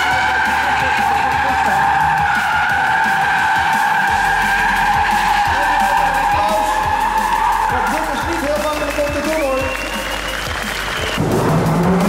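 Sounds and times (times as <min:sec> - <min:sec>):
car engine revving: 0:00.0 - 0:08.9, 0:10.1 - 0:12.0
tyres squealing: 0:00.0 - 0:10.3.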